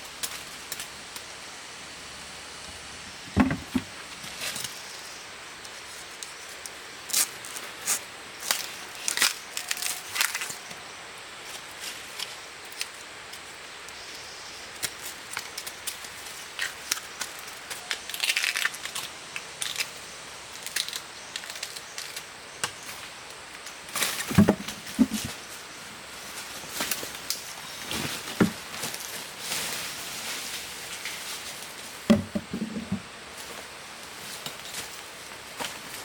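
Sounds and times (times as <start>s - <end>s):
twigs and dry leaves crackling: 0.2s - 1.3s, 2.7s - 10.8s, 11.4s - 36.0s.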